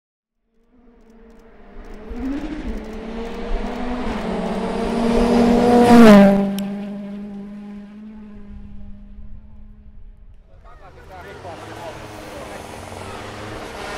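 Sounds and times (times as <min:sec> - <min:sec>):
rally car passing at speed: 0:00.7 - 0:13.9.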